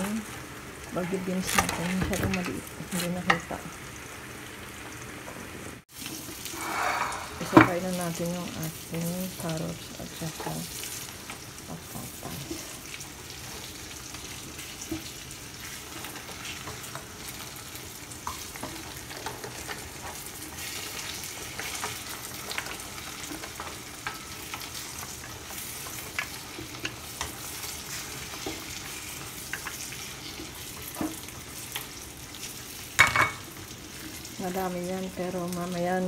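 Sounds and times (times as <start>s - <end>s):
vegetables sizzling in a pot: 0.0s - 36.0s.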